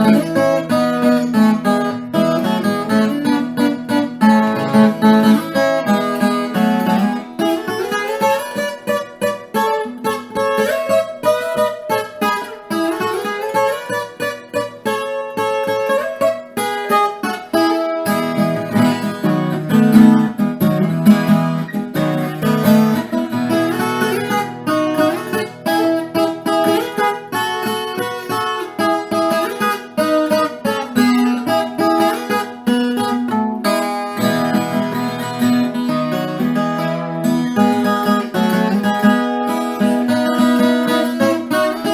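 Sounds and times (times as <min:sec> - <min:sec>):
acoustic guitar plucked and strummed: 0:00.0 - 0:41.9.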